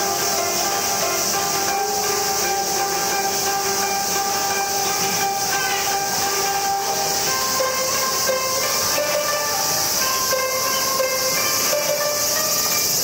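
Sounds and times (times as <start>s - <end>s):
bamboo flutes sustained notes: 0.0s - 13.0s
plucked koto: 0.0s - 13.0s.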